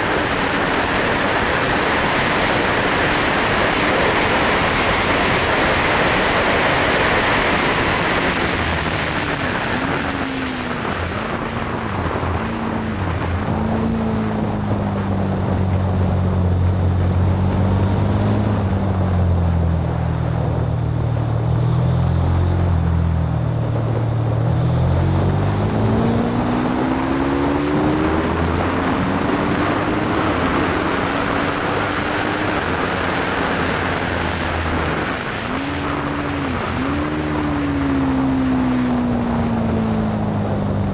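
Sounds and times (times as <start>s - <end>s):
motorcycle engine at speed: 0.0s - 40.9s
wind noise on microphone: 0.0s - 40.9s.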